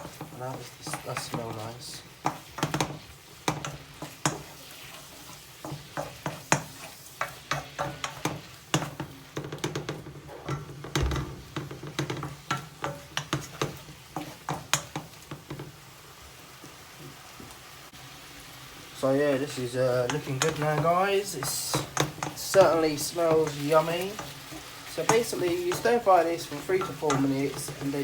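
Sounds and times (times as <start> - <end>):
utensil scraping a pan: 0.0 - 15.6, 19.5 - 28.0
chicken sizzling in a frying pan: 0.0 - 28.0.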